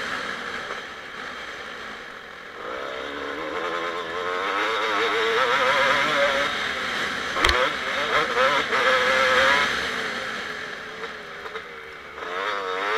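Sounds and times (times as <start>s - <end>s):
two-stroke motocross engine revving: 0.0s - 12.9s.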